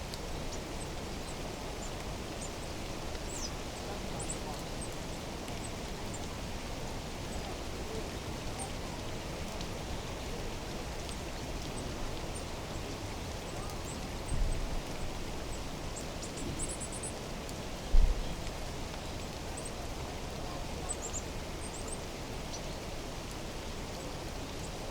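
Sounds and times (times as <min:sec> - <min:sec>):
running water rushing: 0:00.0 - 0:24.9.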